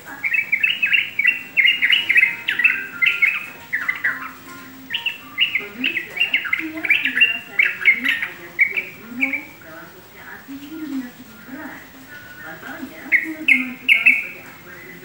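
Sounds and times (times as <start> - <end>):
bulbul singing bright chirps: 0.0 - 9.6, 11.3 - 15.0.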